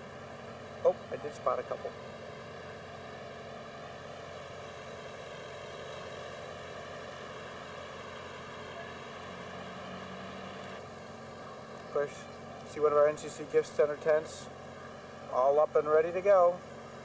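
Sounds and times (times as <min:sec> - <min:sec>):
steady hum with hiss: 0:00.0 - 0:17.0.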